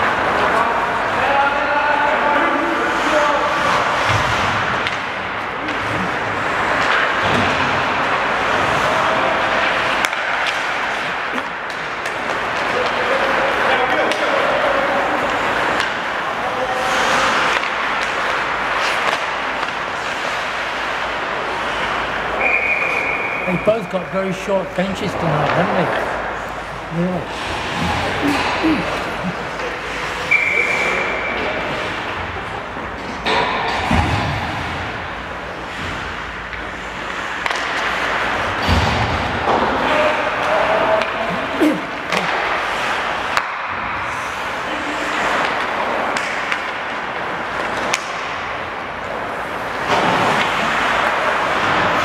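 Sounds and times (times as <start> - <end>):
skates rushing on ice: 0.0 - 33.3, 33.9 - 52.0
arena noise: 0.0 - 52.0
hockey sticks and puck clacking: 2.1 - 52.0.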